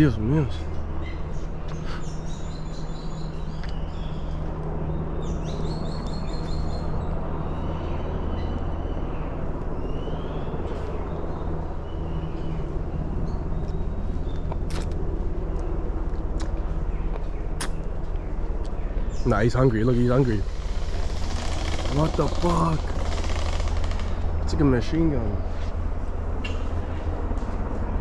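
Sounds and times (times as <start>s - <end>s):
birds chirping: 0.0s - 28.0s
low droning hum: 0.0s - 28.0s.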